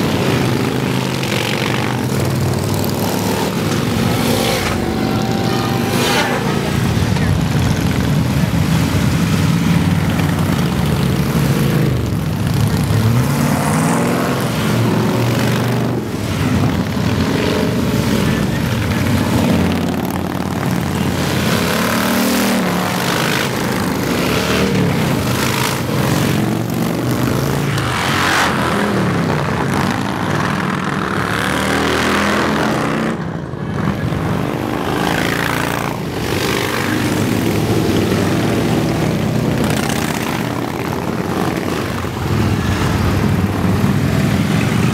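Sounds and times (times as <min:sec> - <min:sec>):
motorcycles rumbling past: 0:00.0 - 0:44.9.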